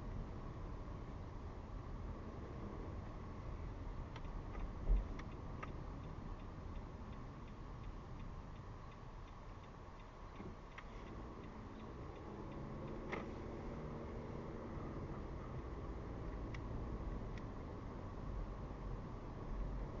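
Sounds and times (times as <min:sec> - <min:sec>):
low road noise: 0:00.0 - 0:20.0
turn signal ticking: 0:03.0 - 0:20.0.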